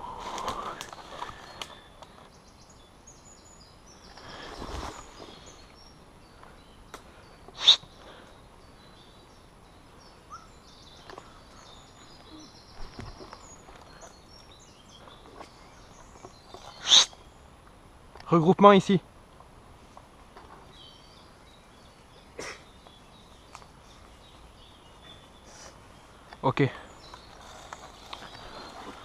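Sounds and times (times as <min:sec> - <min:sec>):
rustle of movement: 0:00.0 - 0:02.8, 0:03.9 - 0:09.1, 0:10.8 - 0:29.0
faint birds chirping: 0:00.0 - 0:29.0.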